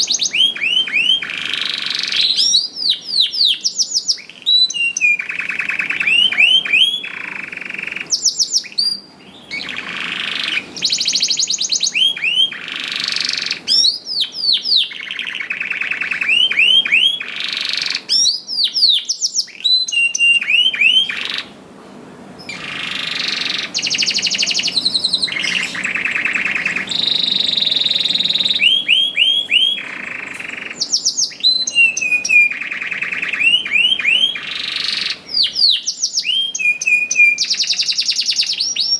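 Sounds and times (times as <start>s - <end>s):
canary singing trills: 0.0s - 21.6s, 22.4s - 38.9s.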